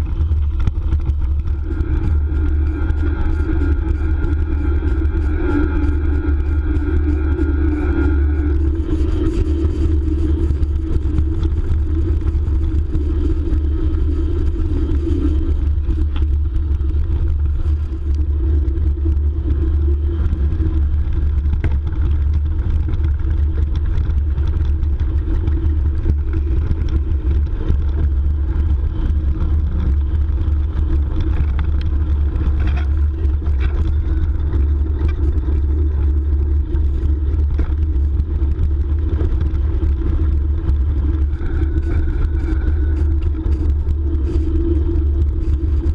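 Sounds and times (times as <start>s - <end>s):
tyre and drivetrain drone: 0.0s - 45.9s
wind buffeting microphone: 0.0s - 45.9s.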